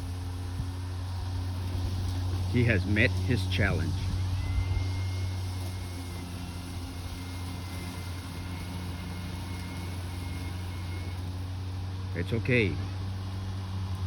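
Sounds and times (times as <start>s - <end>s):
electric lawn mower humming: 0.0s - 14.0s.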